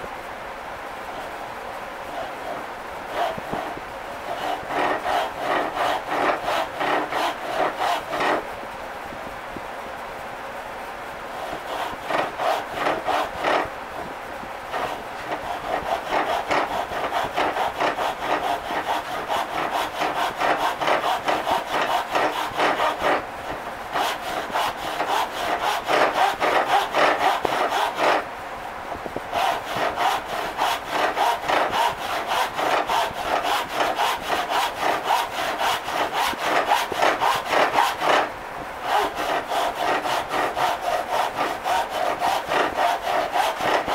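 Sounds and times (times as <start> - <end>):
hand saw cutting wood: 2.1 - 8.5, 11.3 - 14.1, 14.7 - 28.3, 29.3 - 43.9.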